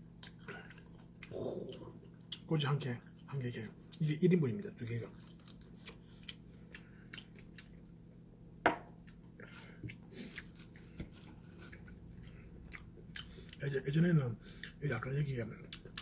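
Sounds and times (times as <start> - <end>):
faint steady hum: 0.0 - 16.0
person chewing: 0.2 - 4.1, 5.1 - 7.8, 9.0 - 14.8, 15.5 - 16.0.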